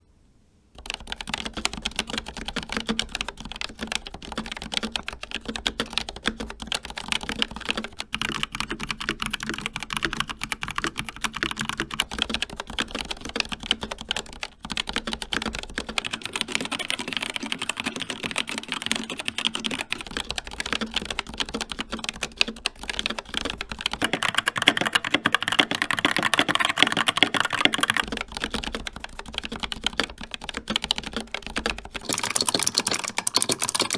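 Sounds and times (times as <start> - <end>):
fast typing on mechanical keyboard: 0.8 - 33.9.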